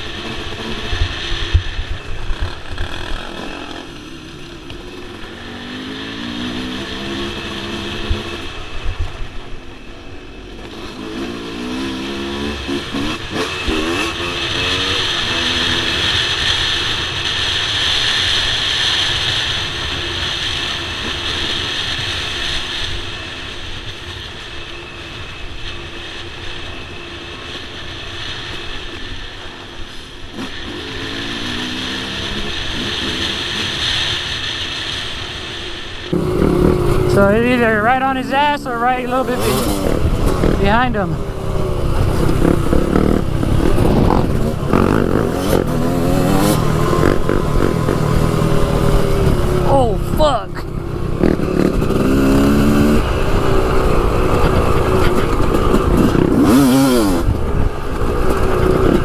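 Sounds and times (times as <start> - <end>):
dirt bike engine revving: 0.0 - 8.9, 10.3 - 22.8, 30.3 - 35.0, 36.1 - 59.0.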